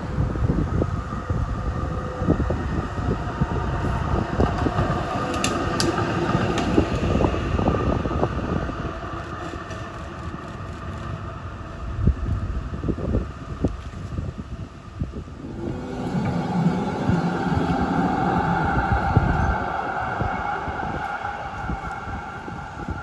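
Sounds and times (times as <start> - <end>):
tram running on rails: 0.0 - 23.0
wind rumbling on microphone: 0.0 - 23.0.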